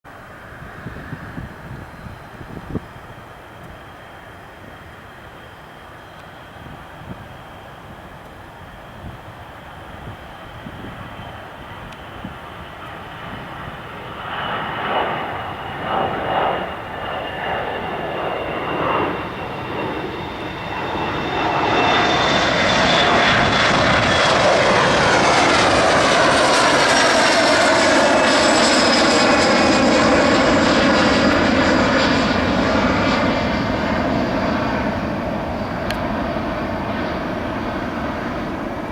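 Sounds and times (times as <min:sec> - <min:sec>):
jet engines roaring at takeoff: 0:00.1 - 0:38.9.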